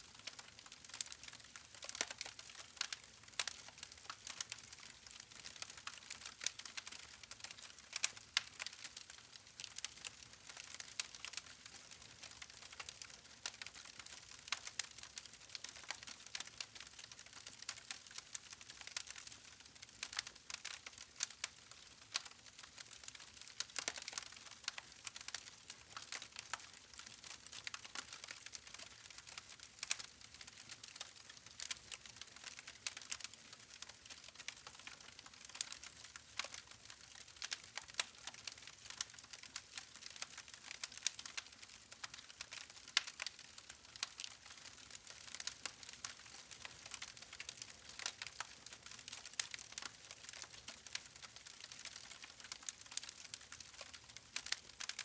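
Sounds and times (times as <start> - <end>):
campfire crackling and popping: 0.3 - 55.0.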